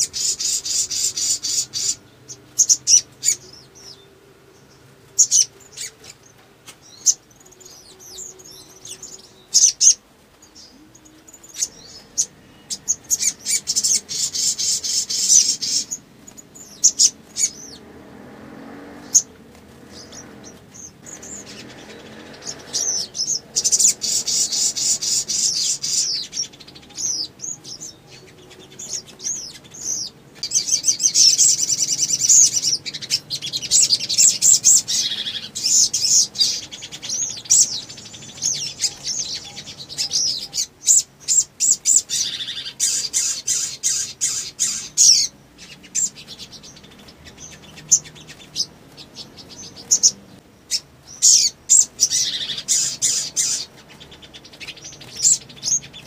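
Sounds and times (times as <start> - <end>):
sunbird singing high chirps and trills: 0.0 - 56.0.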